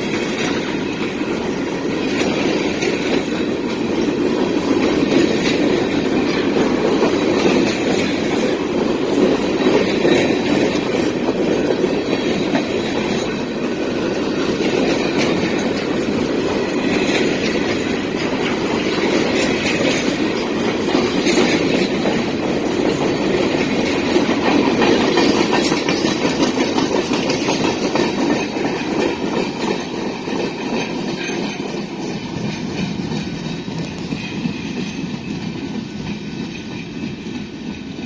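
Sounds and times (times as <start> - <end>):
freight train rumbling past: 0.0 - 38.0
wheels clicking over rail joints: 0.0 - 38.0.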